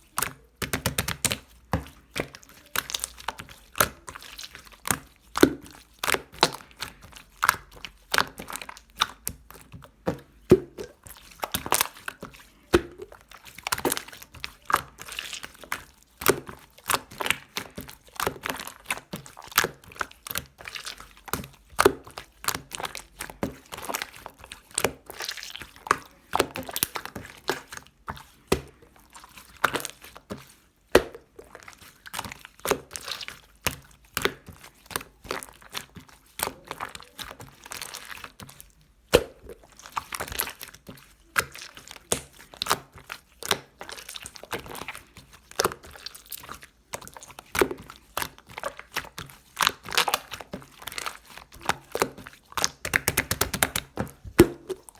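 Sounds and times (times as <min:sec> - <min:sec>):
slime squished by hand: 0:00.0 - 0:54.9.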